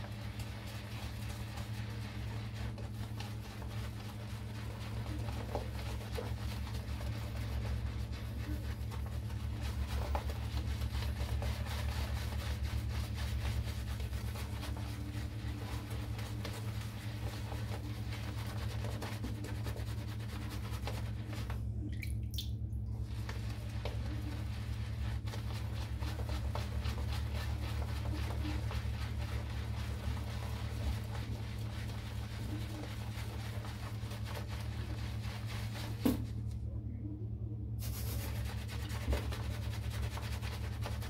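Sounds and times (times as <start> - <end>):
shaving brush squishing lather: 0.0 - 21.8, 22.9 - 36.6, 37.8 - 41.0.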